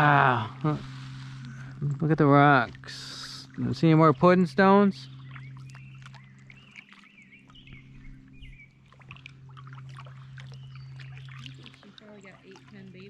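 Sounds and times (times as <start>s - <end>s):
steady low hum: 0.0s - 13.0s
songbird chirping: 0.3s - 13.0s
paddle splashes and drips: 0.6s - 13.0s.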